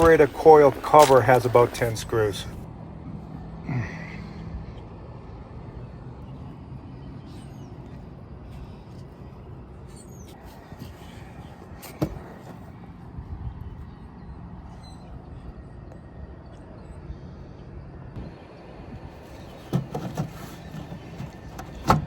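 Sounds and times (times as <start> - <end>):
low outdoor rumble: 0.0 - 19.7.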